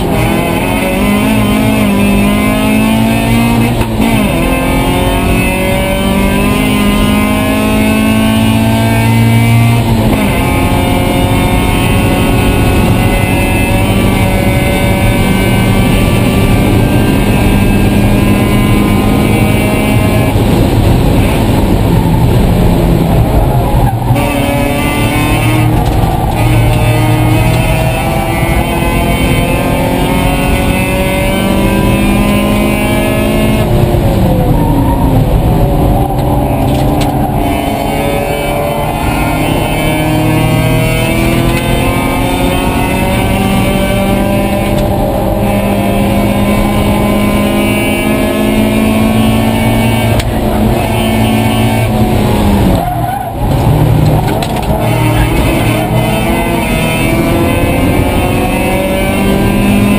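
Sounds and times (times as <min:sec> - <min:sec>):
race car engine accelerating: 0:00.0 - 0:59.9.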